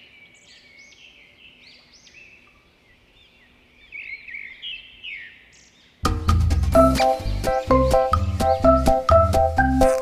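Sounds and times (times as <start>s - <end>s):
birds chirping and twittering: 0.0s - 10.0s.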